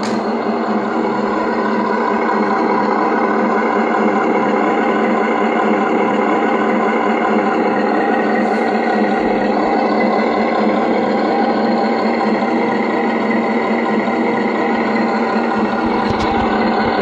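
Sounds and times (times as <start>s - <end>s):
tractor engine sound through small speaker: 0.0s - 17.0s.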